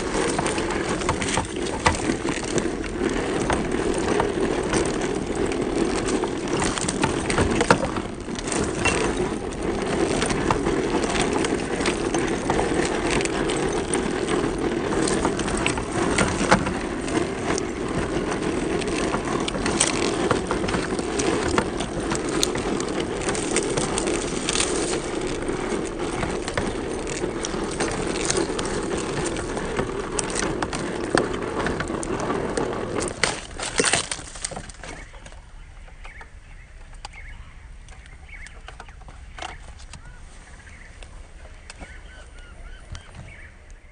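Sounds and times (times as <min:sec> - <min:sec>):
tyres crackling over leaves: 0:00.0 - 0:43.9.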